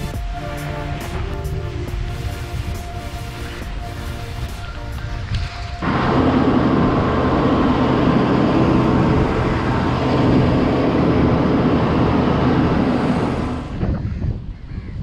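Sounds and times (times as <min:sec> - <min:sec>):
vehicle engine humming: 0:00.0 - 0:14.1
loud road noise: 0:00.0 - 0:14.6.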